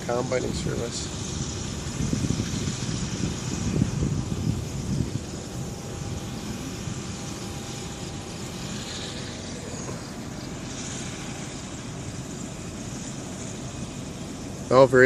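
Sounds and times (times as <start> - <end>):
combine harvester engine rumbling: 0.0 - 15.0.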